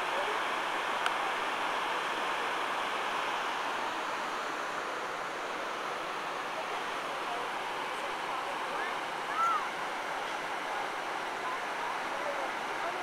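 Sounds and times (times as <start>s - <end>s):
waterfall cascading: 0.0s - 13.0s.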